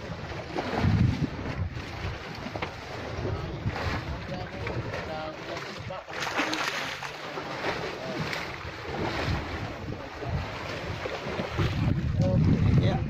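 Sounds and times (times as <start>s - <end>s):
wind buffeting microphone: 0.0s - 6.8s, 7.5s - 13.0s
water sloshing against boat: 0.0s - 13.0s.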